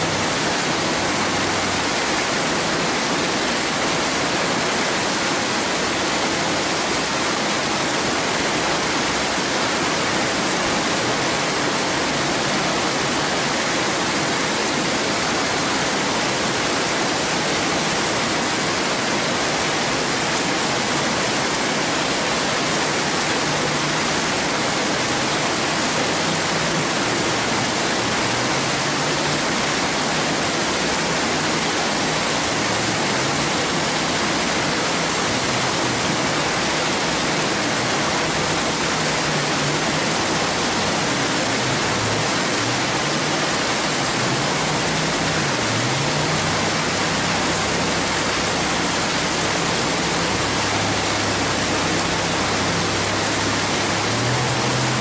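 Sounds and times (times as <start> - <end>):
whitewater rapids rushing: 0.0 - 55.0.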